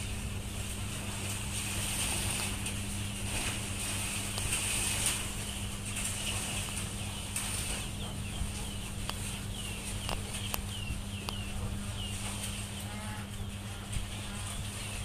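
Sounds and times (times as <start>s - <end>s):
steady low hum: 0.0s - 15.0s
small birds chirping: 1.9s - 15.0s.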